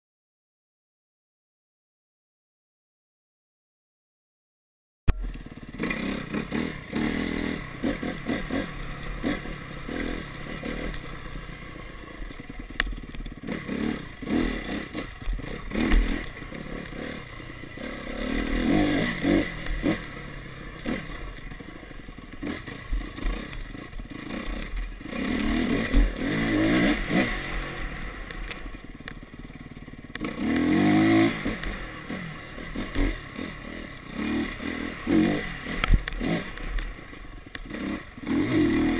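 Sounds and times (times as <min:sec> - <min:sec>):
dirt bike engine revving: 0:05.1 - 0:38.9.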